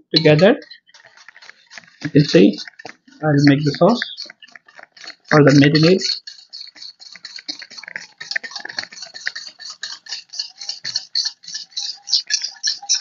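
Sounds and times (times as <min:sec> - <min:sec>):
whisk clicking against metal pot: 0:00.0 - 0:13.0.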